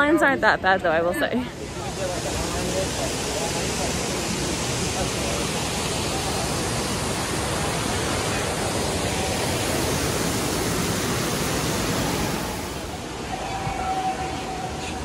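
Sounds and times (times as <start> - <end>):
waterfall rushing over rocks: 1.5 - 15.0.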